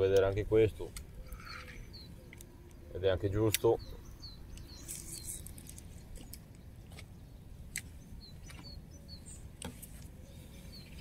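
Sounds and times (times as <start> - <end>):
bird chirps: 1.0 - 11.0.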